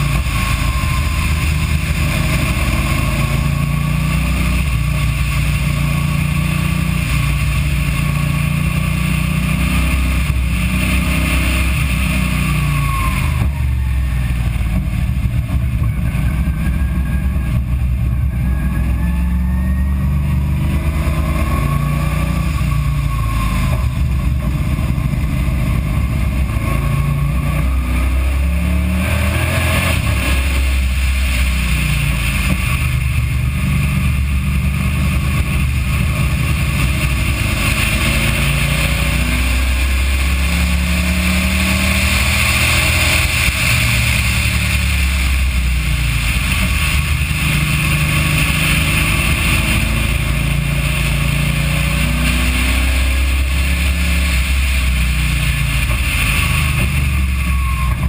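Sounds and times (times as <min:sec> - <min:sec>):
race car engine accelerating: 0:00.0 - 0:58.0
wind noise on microphone: 0:00.0 - 0:58.0.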